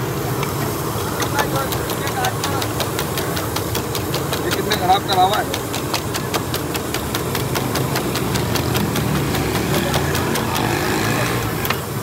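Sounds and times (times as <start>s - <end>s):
small engine idling: 0.0s - 12.0s
sharp even ticks: 1.2s - 11.8s.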